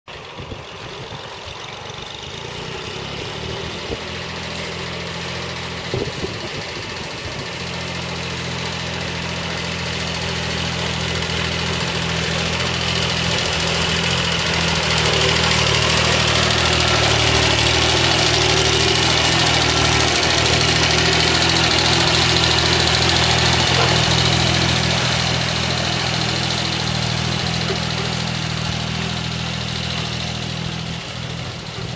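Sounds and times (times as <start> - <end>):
tractor engine running under load: 0.1 - 31.9.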